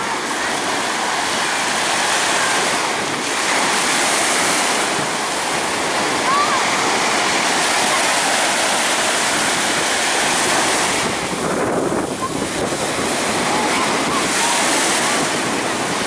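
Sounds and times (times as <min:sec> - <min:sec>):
sea waves washing: 0:00.0 - 0:16.0
wind buffeting microphone: 0:00.0 - 0:16.0.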